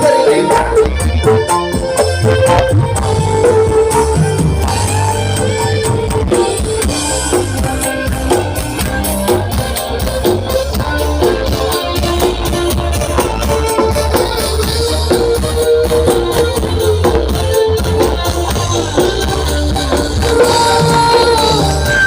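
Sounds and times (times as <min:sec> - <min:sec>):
loud bass-heavy music with drum beat: 0:00.0 - 0:22.0.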